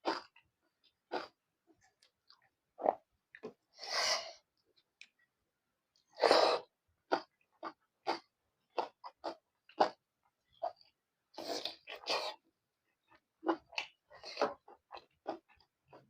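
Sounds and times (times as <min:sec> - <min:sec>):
person chewing food: 0:00.0 - 0:03.6, 0:06.0 - 0:16.0.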